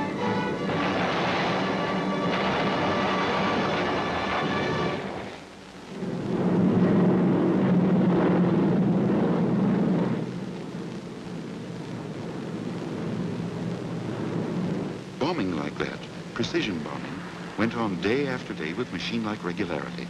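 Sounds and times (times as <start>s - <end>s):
piston aircraft engines droning: 0.0s - 20.0s.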